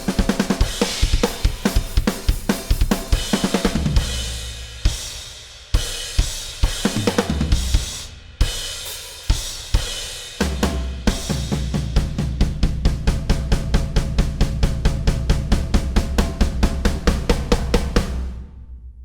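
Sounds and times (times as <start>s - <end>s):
drum kit playing: 0.0s - 18.8s.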